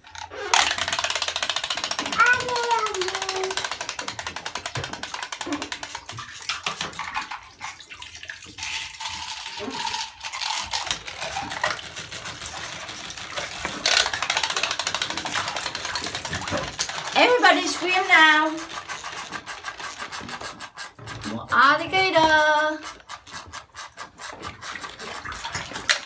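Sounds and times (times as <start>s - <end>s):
clockwork toy motor whirring: 0.0s - 6.2s, 8.7s - 26.0s
toy paddling in water: 0.0s - 26.0s.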